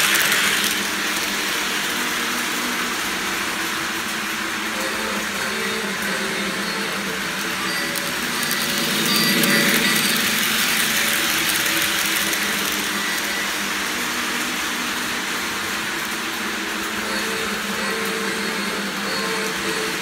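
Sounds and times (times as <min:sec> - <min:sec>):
model train motor whirring: 0:00.0 - 0:20.0
wheels clattering on rails: 0:00.0 - 0:20.0.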